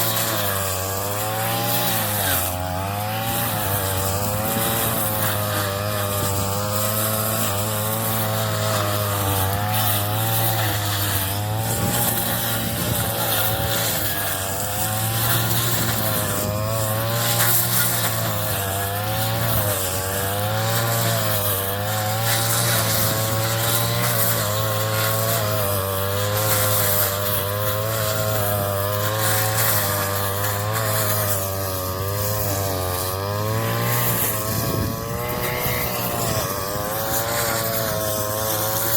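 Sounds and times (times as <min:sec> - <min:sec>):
straw-cutting machine engine: 0:00.0 - 0:38.9.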